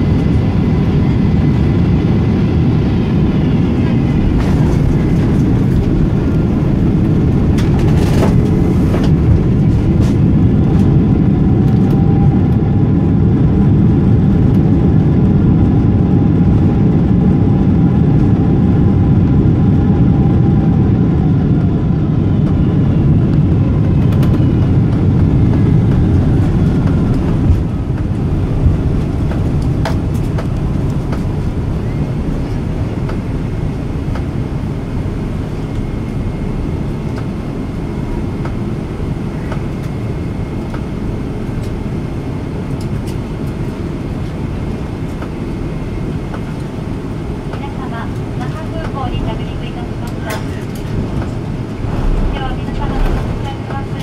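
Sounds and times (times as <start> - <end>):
aircraft engine rumble in cabin: 0.0 - 54.0.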